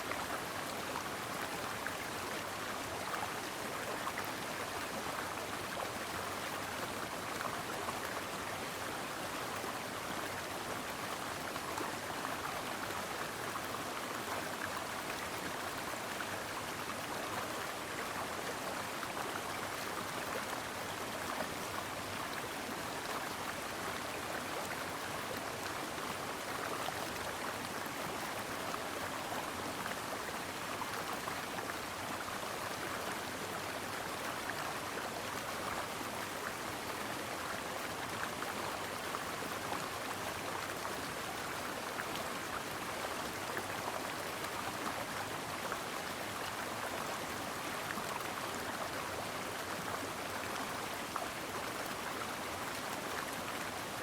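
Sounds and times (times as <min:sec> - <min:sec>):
stream babbling over rocks: 0:00.2 - 0:54.0.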